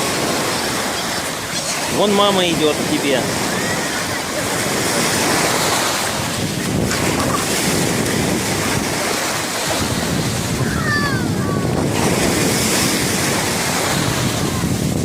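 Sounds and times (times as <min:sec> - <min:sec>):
sea waves washing onto shore: 0:00.0 - 0:15.0
wind buffeting microphone: 0:00.0 - 0:15.0.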